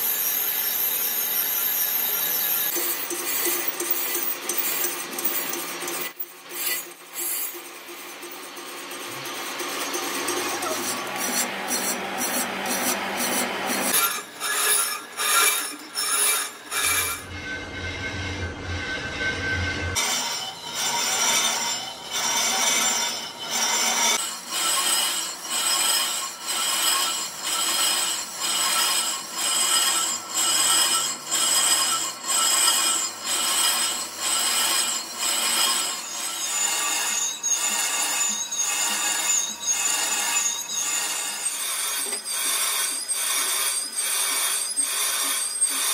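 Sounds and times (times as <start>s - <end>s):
lathe cutting metal with ringing: 0.0s - 45.9s.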